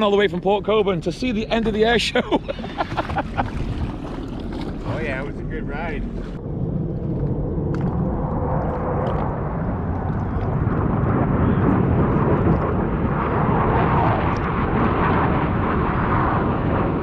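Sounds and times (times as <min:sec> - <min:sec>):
jet engine rushing: 0:00.7 - 0:17.0.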